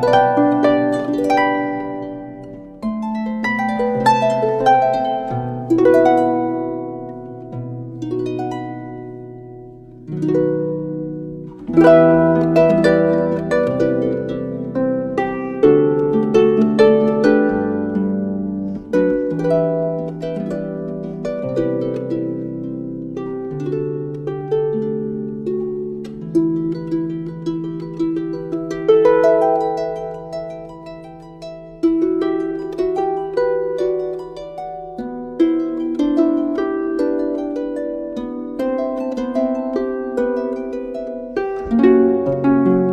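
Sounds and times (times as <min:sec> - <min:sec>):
harp plucked notes and chords: 0:00.0 - 0:42.9.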